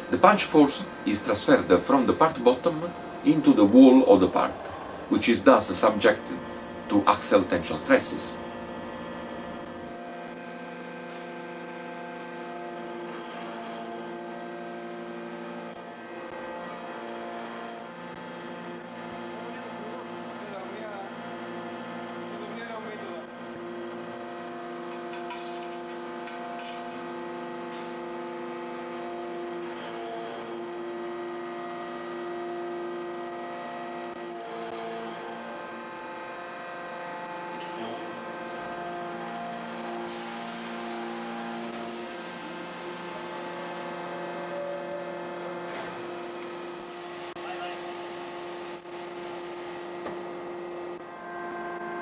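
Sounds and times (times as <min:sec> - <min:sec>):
press machine humming: 0:00.0 - 0:52.0.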